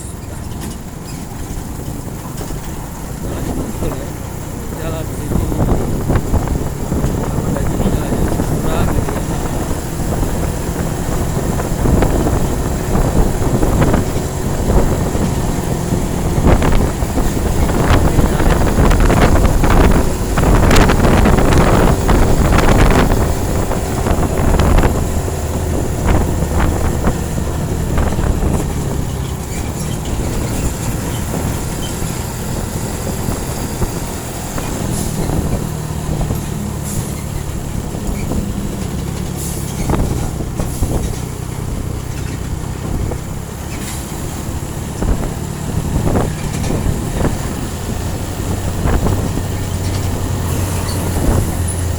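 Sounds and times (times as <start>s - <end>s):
truck engine running: 0.0s - 51.9s
truck rattling on rough road: 0.0s - 51.9s.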